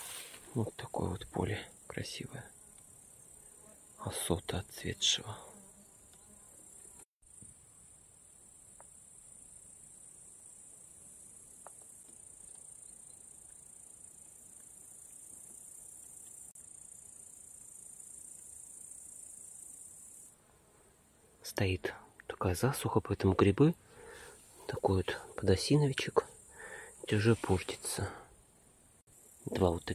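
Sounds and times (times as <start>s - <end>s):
insects chirring: 0.5s - 20.4s, 23.6s - 28.4s, 29.0s - 29.9s.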